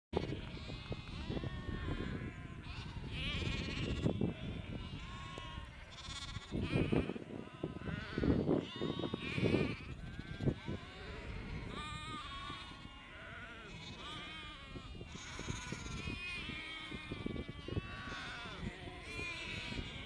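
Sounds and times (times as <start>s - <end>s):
sheep bleating: 0.2s - 20.0s.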